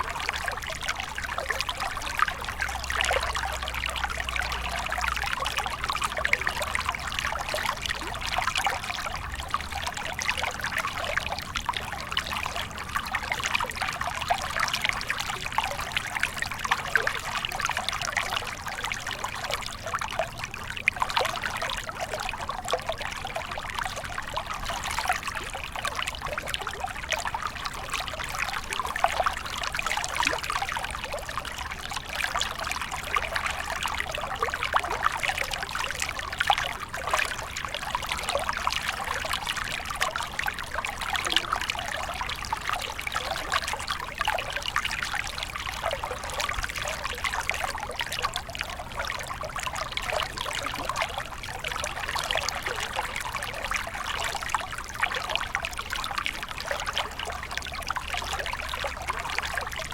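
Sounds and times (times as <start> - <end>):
stream bubbling over stones: 0.0 - 59.9.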